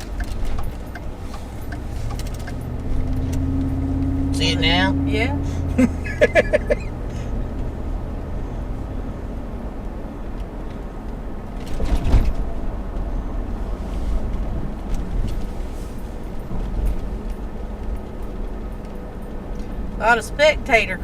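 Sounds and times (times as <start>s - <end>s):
car engine rumble: 0.0s - 21.0s
road noise inside car: 0.0s - 21.0s.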